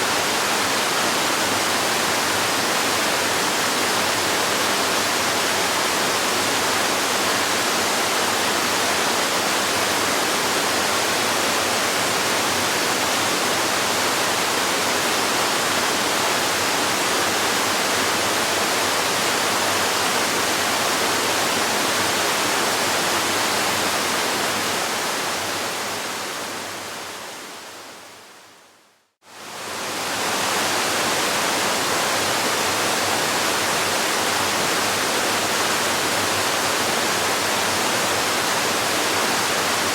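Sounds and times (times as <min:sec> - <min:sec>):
waterfall rushing: 0:00.0 - 0:27.7, 0:29.3 - 0:39.9.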